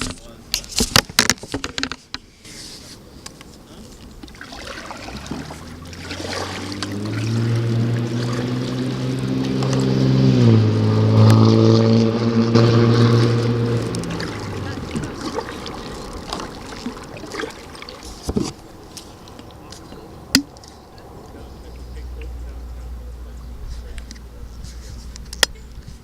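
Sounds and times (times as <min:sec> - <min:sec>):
motor engine humming: 0:03.5 - 0:26.0.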